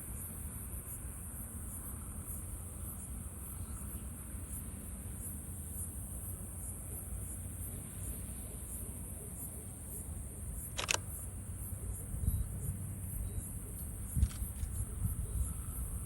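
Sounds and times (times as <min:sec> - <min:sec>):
insects chirring: 0:00.1 - 0:16.0.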